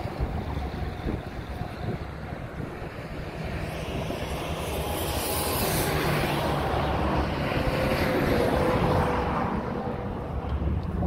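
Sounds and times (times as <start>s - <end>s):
passing vehicle rumble: 0.0s - 11.0s
wind on microphone: 0.0s - 11.0s.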